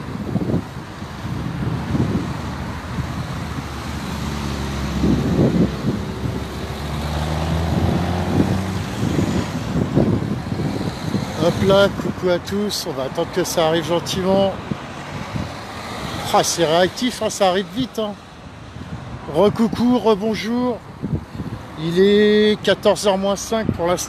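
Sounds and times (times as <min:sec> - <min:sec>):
cars passing: 0:00.0 - 0:24.0
wind gusts on microphone: 0:00.0 - 0:24.0.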